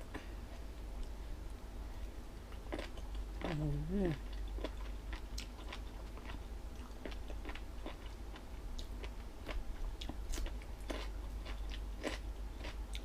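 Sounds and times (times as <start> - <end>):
person chewing crunchy food: 2.5 - 13.0.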